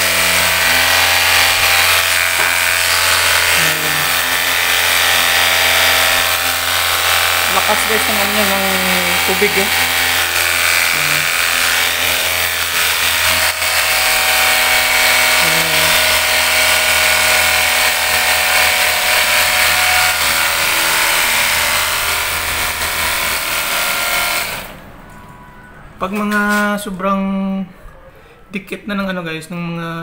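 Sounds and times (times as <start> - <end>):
high-pressure water jet spraying: 0.0 - 24.7
electric pump motor hum: 0.0 - 24.8.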